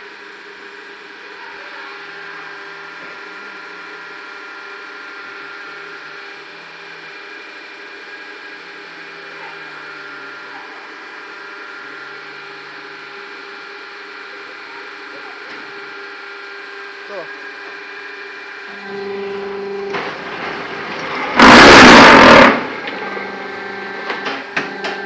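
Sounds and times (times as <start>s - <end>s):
machine humming and whining: 0.0s - 25.0s.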